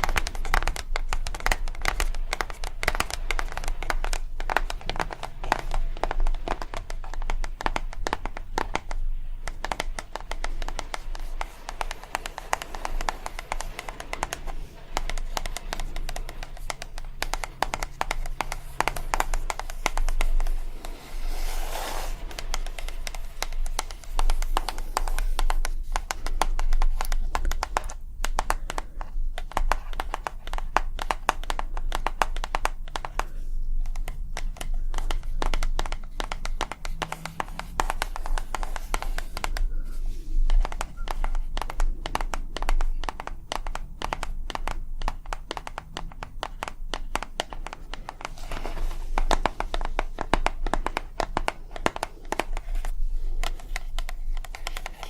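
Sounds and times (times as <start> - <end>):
fast tapping and clicking: 0.0 - 55.0.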